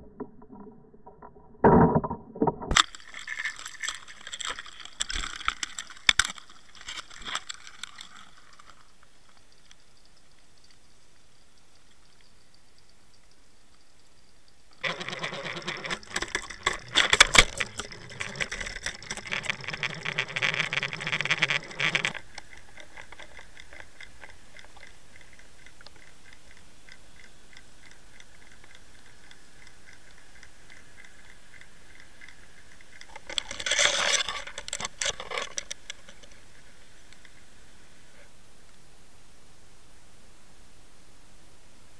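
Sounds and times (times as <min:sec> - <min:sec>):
underwater clicking and rattling: 0:00.0 - 0:10.9, 0:14.7 - 0:37.5
faint steady hiss: 0:02.7 - 0:41.9.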